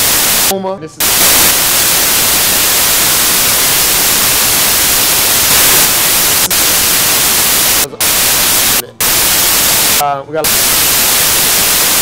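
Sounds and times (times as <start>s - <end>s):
loud static hiss: 0.0s - 12.0s.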